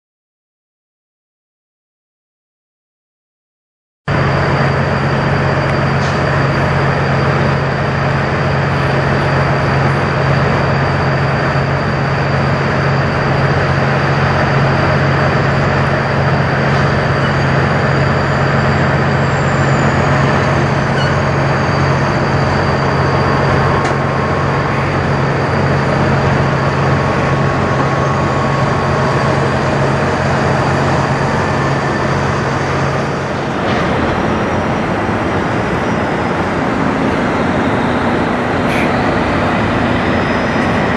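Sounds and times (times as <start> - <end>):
diesel truck engine droning: 4.1 - 40.9
road and traffic noise: 4.1 - 40.9.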